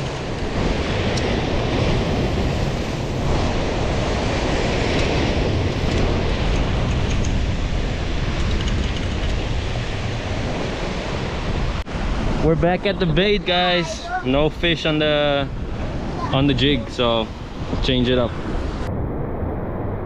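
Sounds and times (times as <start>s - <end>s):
surf washing against shore: 0.0s - 18.8s
wind buffeting microphone: 0.0s - 20.0s.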